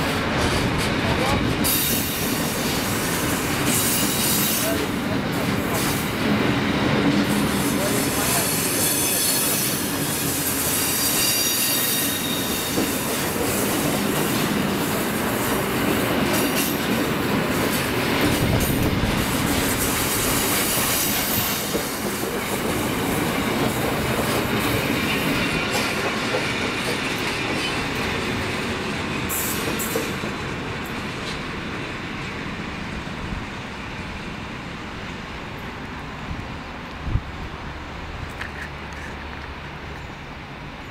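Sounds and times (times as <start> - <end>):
train wheels rolling on rails: 0.0 - 40.9.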